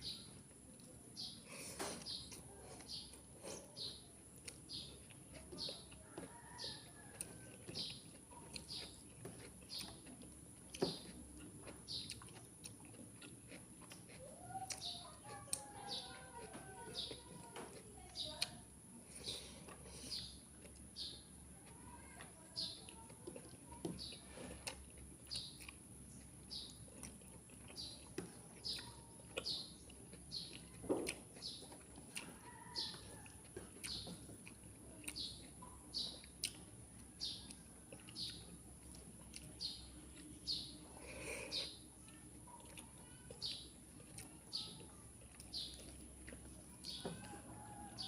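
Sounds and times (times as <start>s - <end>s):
small bird chirping: 1.2s - 18.6s, 19.2s - 48.0s.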